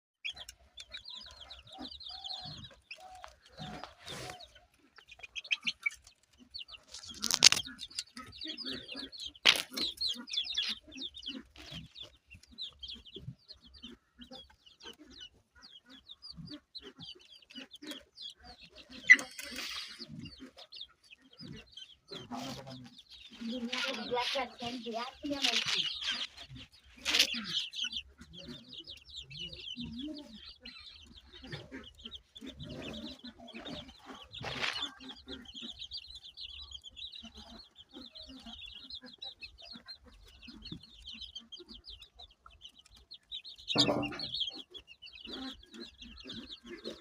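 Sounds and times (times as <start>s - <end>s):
chickens clucking: 0.2s - 47.0s
high quick peeping calls: 0.2s - 47.0s.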